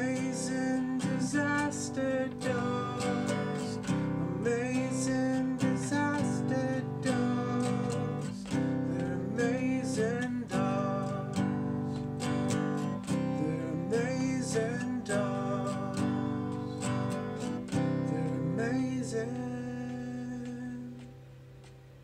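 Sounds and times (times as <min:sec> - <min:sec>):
man singing: 0:00.0 - 0:21.2
acoustic guitar strumming: 0:00.0 - 0:22.0.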